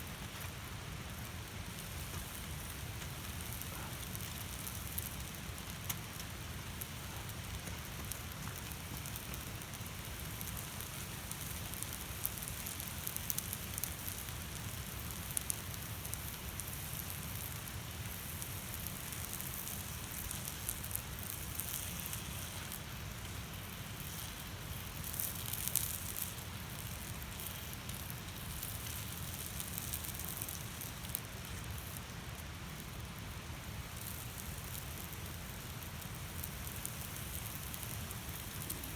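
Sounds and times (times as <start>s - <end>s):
small crackles and ticks: 0.0s - 38.9s
steady hissing noise: 0.0s - 38.9s.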